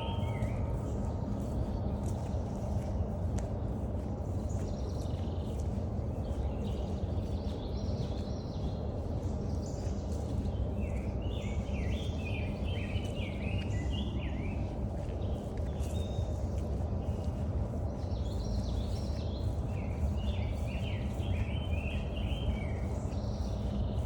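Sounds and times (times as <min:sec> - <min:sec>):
footsteps on forest trail: 0:00.0 - 0:24.0
songbirds singing: 0:00.0 - 0:24.0.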